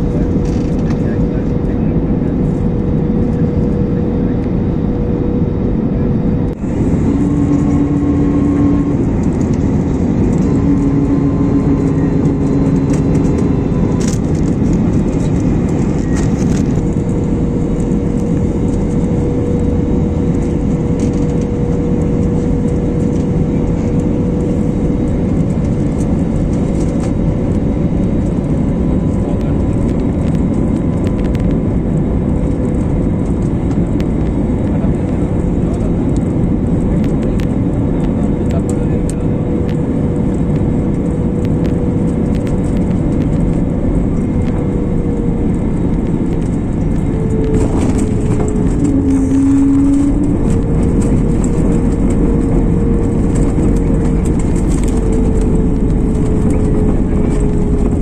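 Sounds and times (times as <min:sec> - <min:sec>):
engine and airflow roar: 0:00.0 - 0:58.0
engine hum: 0:00.0 - 0:58.0.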